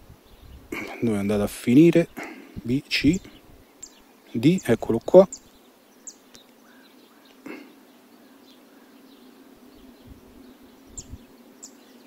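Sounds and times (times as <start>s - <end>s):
faint countryside background: 0.0s - 12.0s.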